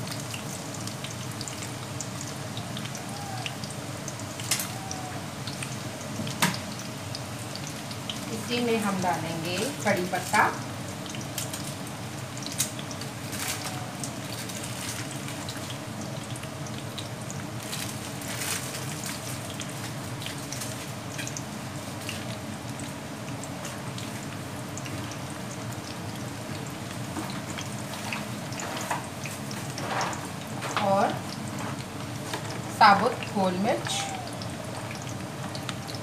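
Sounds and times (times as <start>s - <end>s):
oil sizzling and bubbling: 0.0s - 36.0s.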